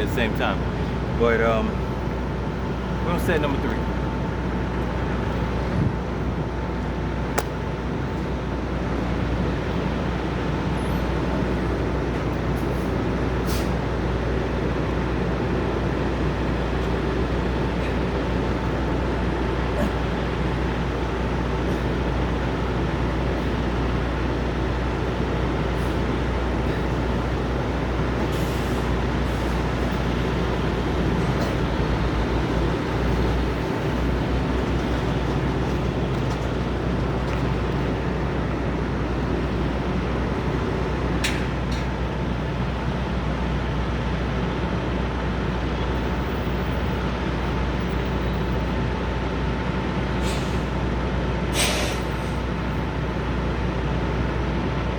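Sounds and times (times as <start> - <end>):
diesel truck engines idling: 0.0 - 54.9.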